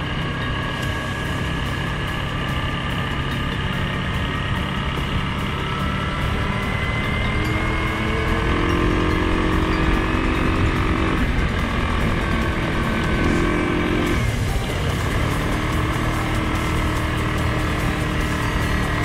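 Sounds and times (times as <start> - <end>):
atv engine running: 0.0 - 19.0
drivetrain whine: 0.0 - 19.0.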